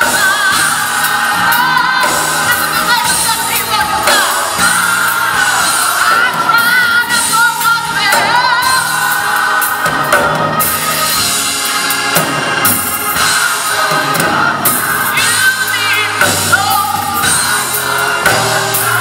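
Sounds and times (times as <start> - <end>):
gospel choir singing: 0.0 - 19.0.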